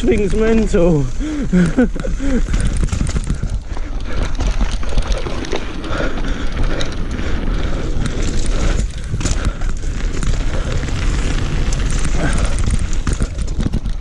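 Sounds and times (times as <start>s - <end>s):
mountain bike rattling downhill: 0.0s - 14.0s
wind buffeting microphone: 1.2s - 14.0s.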